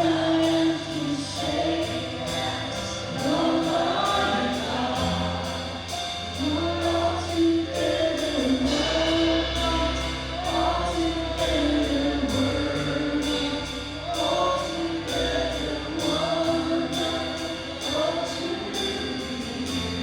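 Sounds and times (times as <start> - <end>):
group of voices singing: 0.0 - 20.0
worship band playing a slow song: 0.0 - 20.0.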